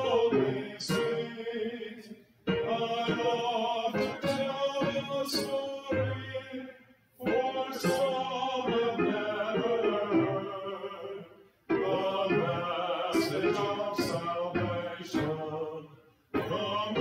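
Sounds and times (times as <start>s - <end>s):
keyboard accompaniment: 0.0s - 6.6s, 7.2s - 17.0s
congregation singing a hymn: 0.0s - 17.0s.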